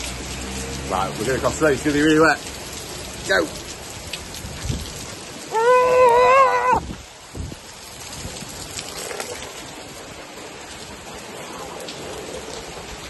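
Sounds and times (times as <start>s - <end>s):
heavy rain pattering: 0.0s - 13.0s.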